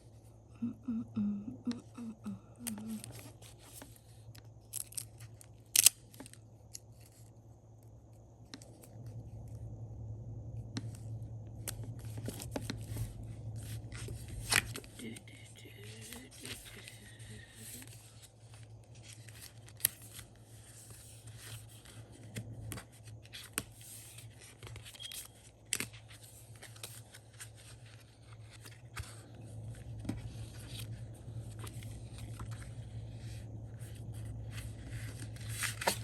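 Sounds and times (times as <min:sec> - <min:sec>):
low steady hum: 0:00.0 - 0:36.0
paper rustling: 0:02.6 - 0:07.3, 0:11.7 - 0:36.0.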